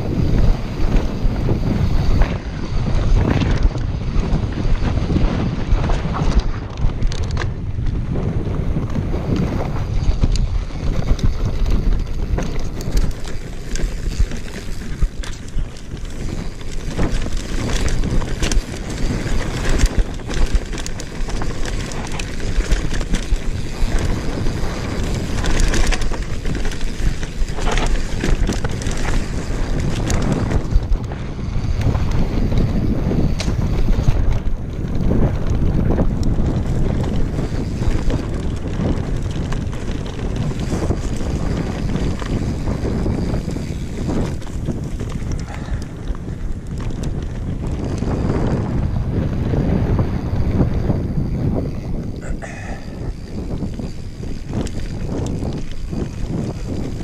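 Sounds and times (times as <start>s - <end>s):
bike rattling and knocking: 0.0s - 57.0s
bike tyre rumble: 0.0s - 57.0s
wind buffeting microphone: 0.0s - 57.0s.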